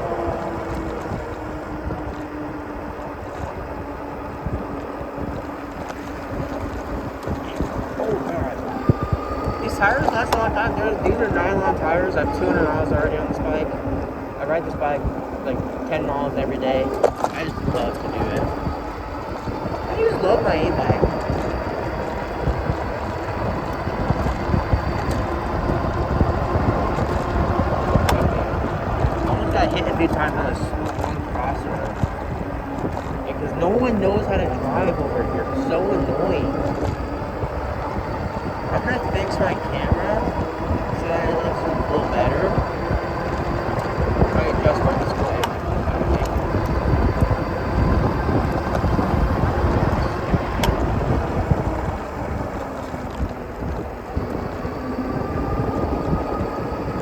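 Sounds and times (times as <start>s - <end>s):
bike tyre and road noise: 0.0s - 57.0s
electric motor hum: 0.0s - 57.0s
wind rumbling on microphone: 0.0s - 57.0s.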